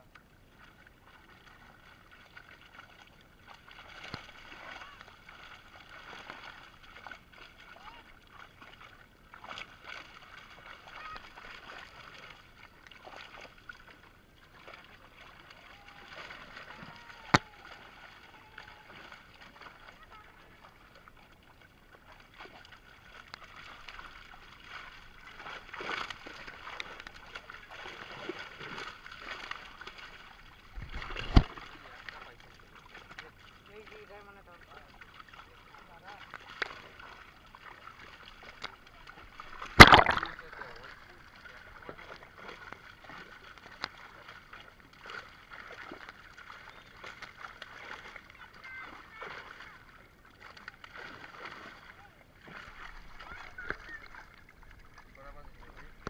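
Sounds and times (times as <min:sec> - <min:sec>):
fish thrashing in water: 0:01.4 - 0:33.6, 0:34.6 - 0:56.0.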